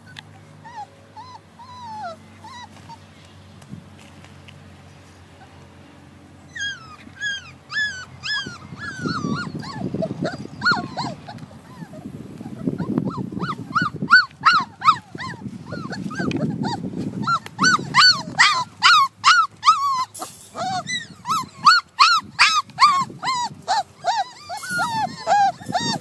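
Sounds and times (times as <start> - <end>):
puppies whining and yelping: 0.0 - 3.2, 6.4 - 26.0.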